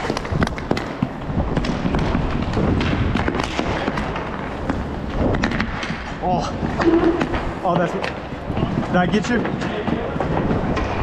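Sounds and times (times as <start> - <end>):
skate wheels rolling rumble: 0.0 - 11.0
sticks and puck clacking: 0.0 - 11.0.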